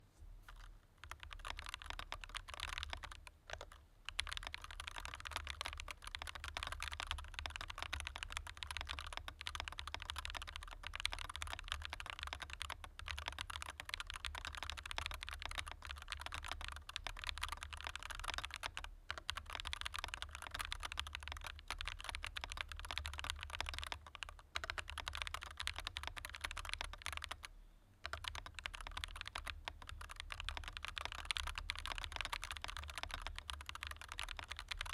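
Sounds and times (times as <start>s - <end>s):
keyboard typing: 0.5s - 34.9s.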